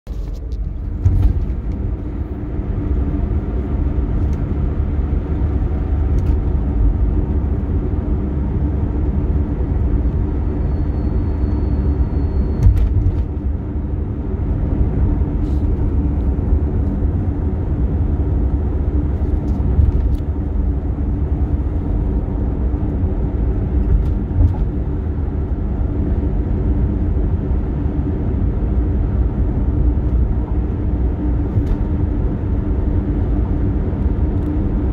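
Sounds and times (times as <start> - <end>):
car driving rumble and drone: 0.0 - 34.9.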